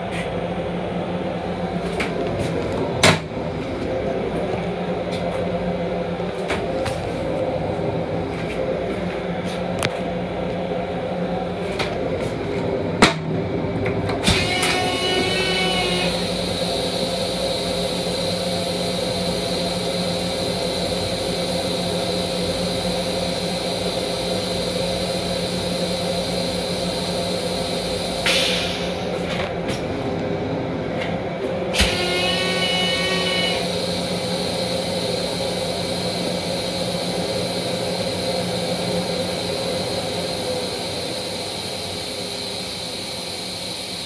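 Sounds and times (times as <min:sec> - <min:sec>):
train hum: 0:00.0 - 0:44.0.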